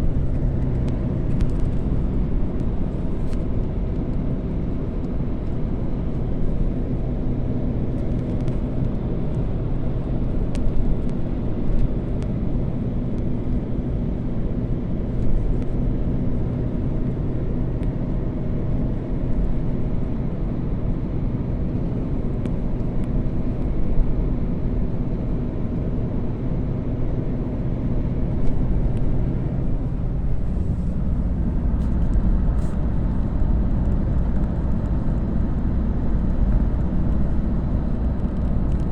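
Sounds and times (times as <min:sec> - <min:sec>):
faint steady hum: 0:00.0 - 0:38.9
vehicle engine and road noise: 0:00.0 - 0:38.9.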